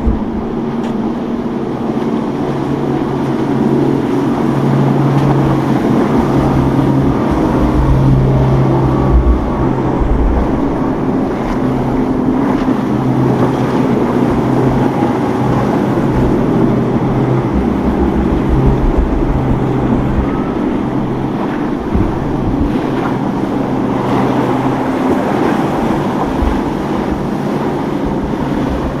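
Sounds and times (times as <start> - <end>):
motorboat engines running: 0.0 - 29.0
wind buffeting microphone: 0.0 - 29.0.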